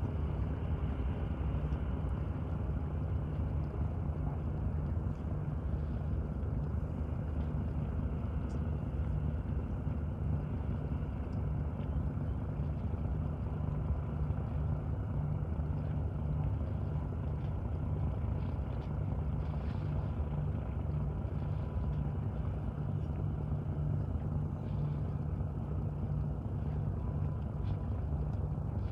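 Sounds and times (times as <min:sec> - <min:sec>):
low engine drone: 0:00.0 - 0:28.9.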